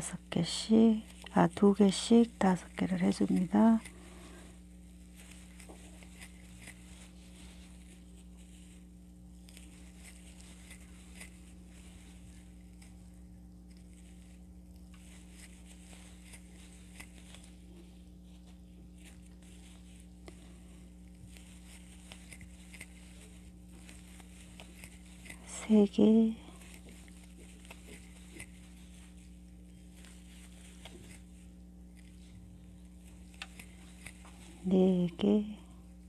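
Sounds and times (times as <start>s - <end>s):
steady low hum: 0.0s - 36.0s
crochet hook pulling yarn: 0.3s - 4.0s, 4.9s - 35.5s.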